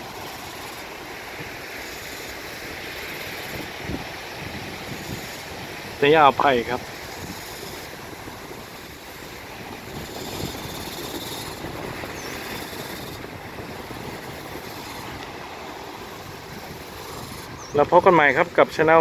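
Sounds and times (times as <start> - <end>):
waves washing over rocks: 0.0 - 19.0.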